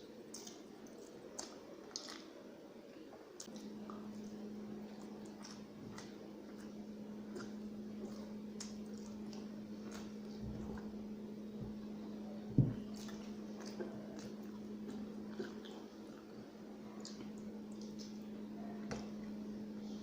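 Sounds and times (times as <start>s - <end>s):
person chewing food: 0.3s - 2.3s, 3.4s - 18.4s
low hum: 3.4s - 20.0s.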